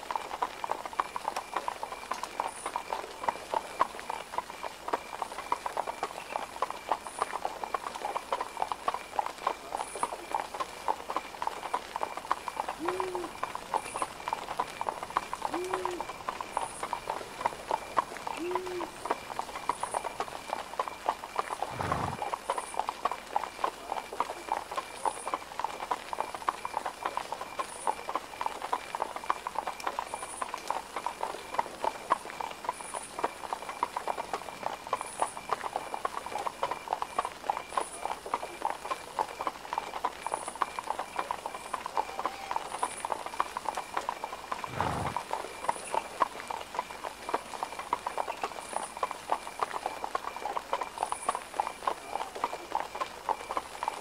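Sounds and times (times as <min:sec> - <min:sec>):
horse hooves clip-clopping: 0:00.0 - 0:54.0.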